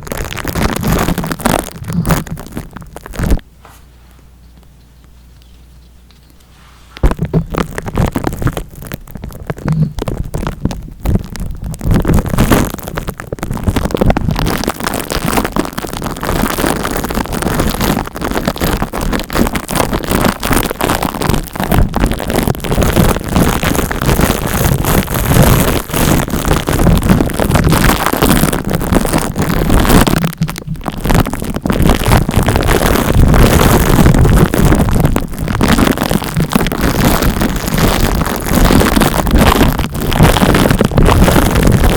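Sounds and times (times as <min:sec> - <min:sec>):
scratching against microphone: 0:00.0 - 0:41.9.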